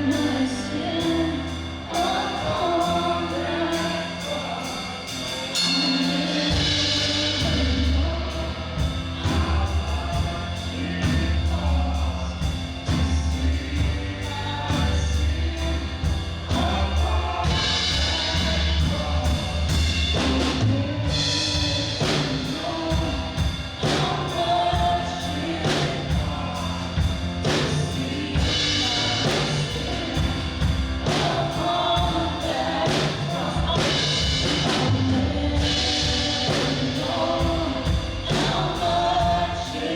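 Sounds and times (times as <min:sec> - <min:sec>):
band playing steady beat: 0:00.0 - 0:39.9
voices singing: 0:00.0 - 0:39.9.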